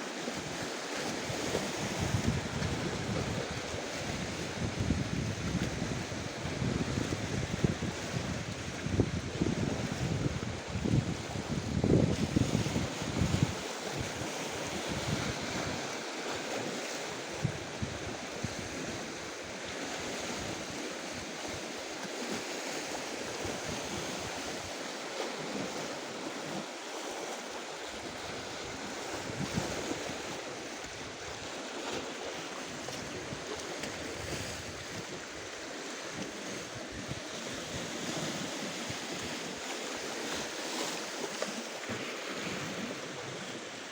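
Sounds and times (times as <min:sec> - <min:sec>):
sea surf washing on shore: 0:00.0 - 0:43.9
wind rumbling on microphone: 0:00.4 - 0:26.6, 0:27.8 - 0:43.9.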